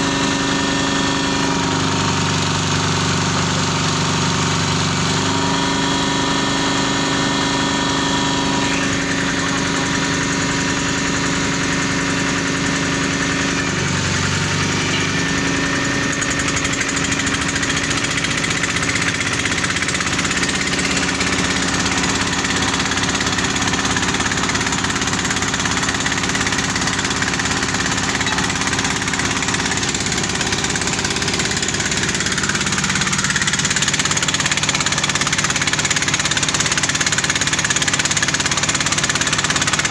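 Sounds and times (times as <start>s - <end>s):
drilling rig engines running: 0.0s - 39.9s.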